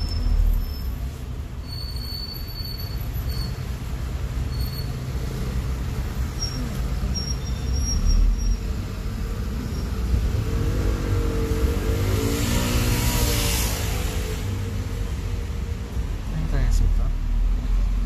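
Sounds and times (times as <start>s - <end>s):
bus engine and tyre rumble: 0.0s - 18.0s.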